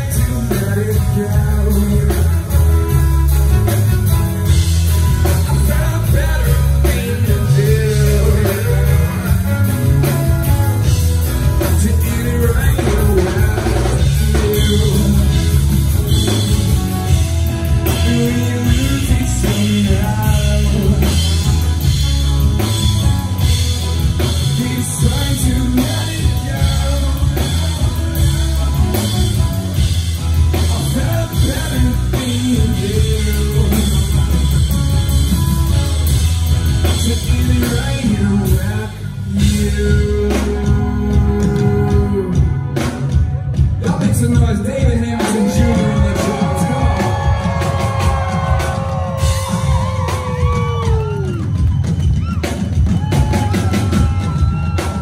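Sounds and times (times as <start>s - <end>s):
person singing: 0.0s - 42.8s, 43.8s - 51.6s
drum kit: 0.0s - 55.0s
electric guitar: 0.0s - 55.0s.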